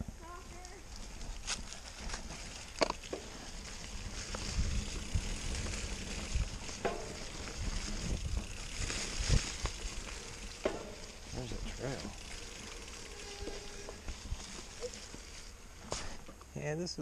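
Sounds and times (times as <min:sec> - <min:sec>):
bike tyres rolling on leafy dirt: 0:00.0 - 0:17.0
bike thumping over bumps: 0:01.4 - 0:16.5.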